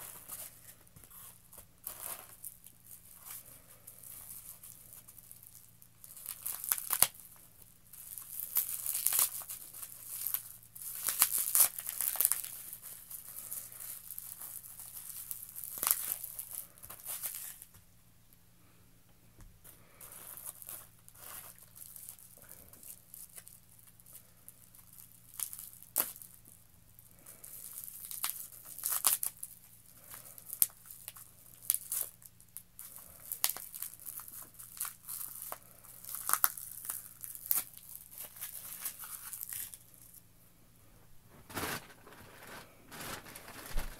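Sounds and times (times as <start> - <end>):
bubble wrap crinkling: 0.0 - 17.8, 19.7 - 40.3, 41.0 - 43.9.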